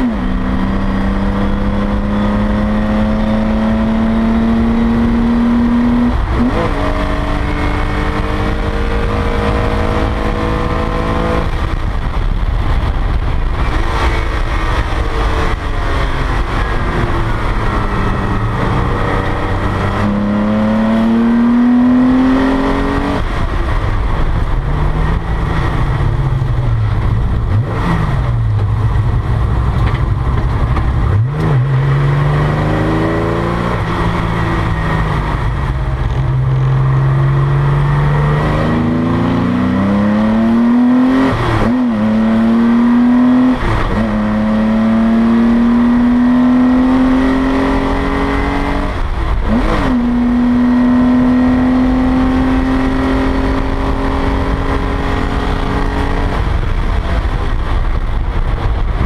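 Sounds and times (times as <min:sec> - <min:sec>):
race car engine accelerating: 0:00.0 - 0:59.0
road and wind noise: 0:00.0 - 0:59.0.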